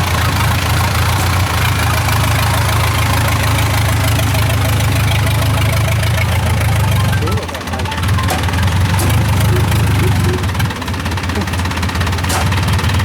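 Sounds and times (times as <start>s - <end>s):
harvester engine running steadily: 0.0s - 13.0s.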